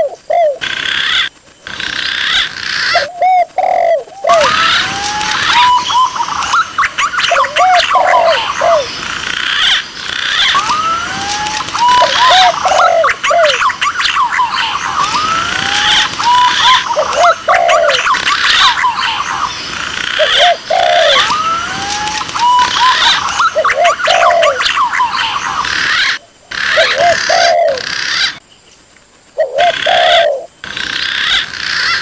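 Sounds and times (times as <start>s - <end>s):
doves calling: 0.0s - 28.4s, 29.4s - 32.0s
green pigeons calling: 0.0s - 28.4s, 29.4s - 32.0s
high chirps and clicks: 0.6s - 28.4s.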